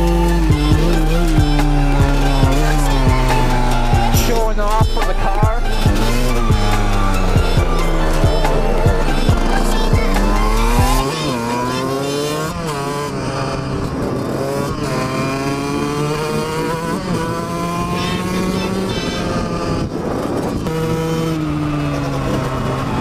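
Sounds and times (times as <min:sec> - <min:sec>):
dirt bike engine accelerating: 0:00.0 - 0:23.0.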